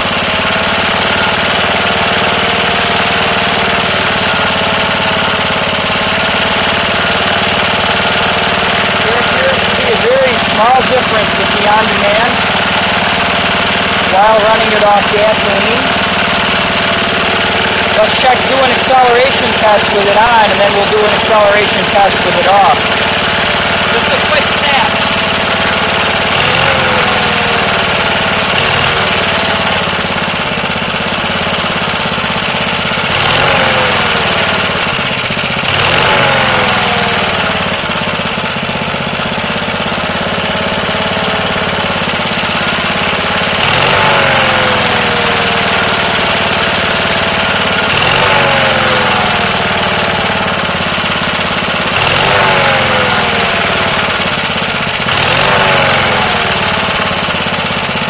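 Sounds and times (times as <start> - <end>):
lawnmower engine surging: 0.0 - 58.0.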